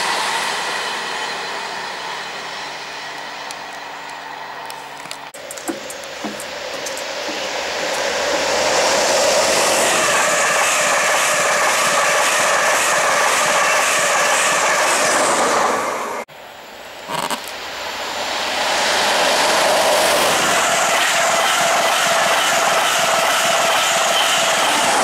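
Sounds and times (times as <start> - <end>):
express train rushing past: 0.0 - 25.0.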